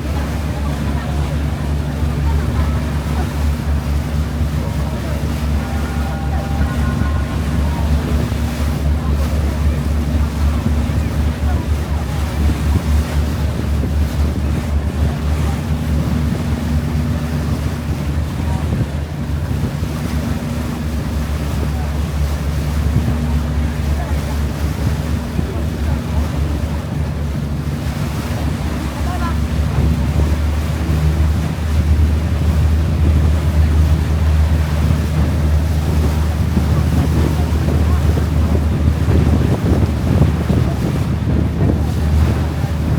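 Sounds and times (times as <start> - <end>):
boat engine humming: 0.0 - 42.9
water noise: 0.0 - 42.9
wind buffeting microphone: 0.0 - 42.9.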